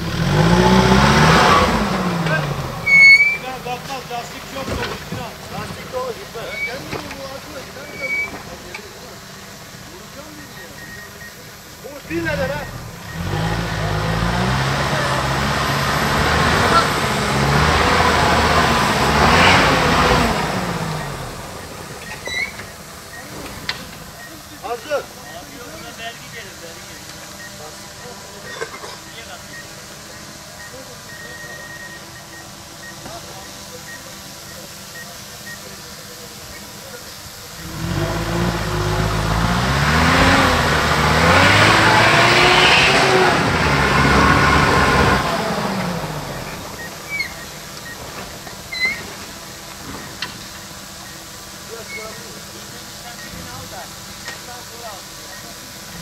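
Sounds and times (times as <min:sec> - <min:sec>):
engine revving under load: 0:00.0 - 0:11.2, 0:11.8 - 0:35.0, 0:37.1 - 0:54.3
tyres churning through mud: 0:00.0 - 0:56.0.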